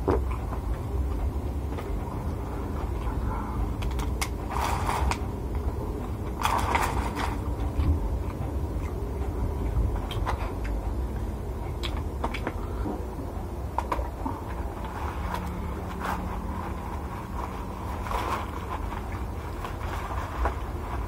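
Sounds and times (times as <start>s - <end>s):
chewing and crunching food: 0.0s - 21.0s
steady low rumble: 0.0s - 21.0s.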